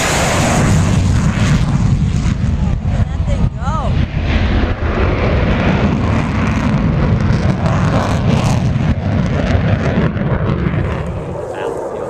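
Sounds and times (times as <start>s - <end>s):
aircraft flying past: 0.0s - 12.0s.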